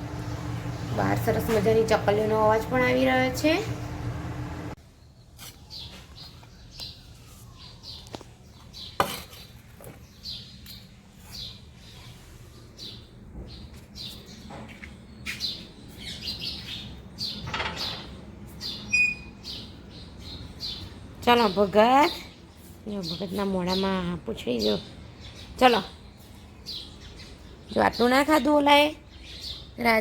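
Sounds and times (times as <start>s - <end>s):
sparrows chirping: 4.9s - 30.0s.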